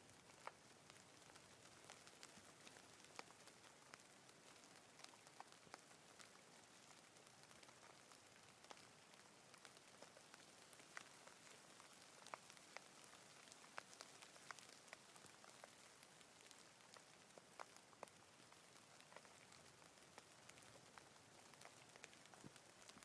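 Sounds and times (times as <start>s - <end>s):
faint steady rain: 0.0s - 23.0s
raindrops ticking: 0.0s - 23.0s.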